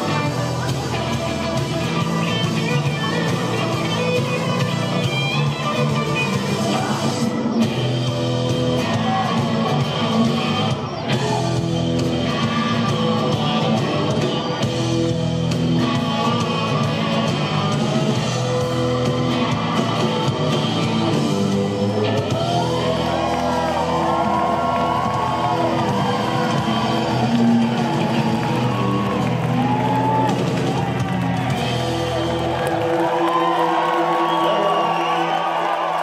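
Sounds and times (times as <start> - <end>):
electric bass: 0.0 - 33.2
drums: 0.0 - 36.0
electric guitar: 0.0 - 36.0.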